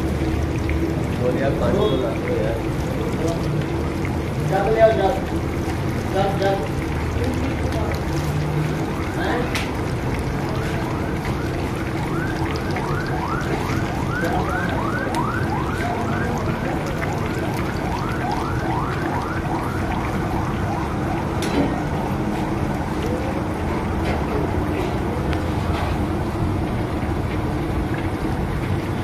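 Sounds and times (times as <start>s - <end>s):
fish sizzling in hot oil: 0.0s - 29.0s.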